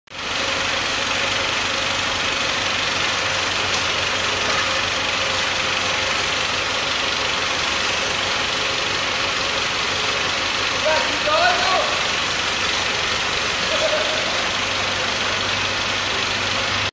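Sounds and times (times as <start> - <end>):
tractor engine running: 0.1 - 16.9.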